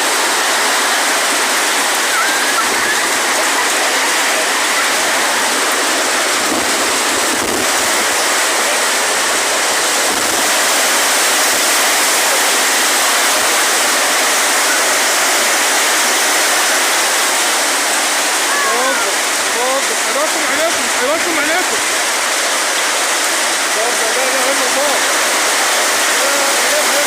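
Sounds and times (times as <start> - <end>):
storm wind and water rushing: 0.0 - 27.0.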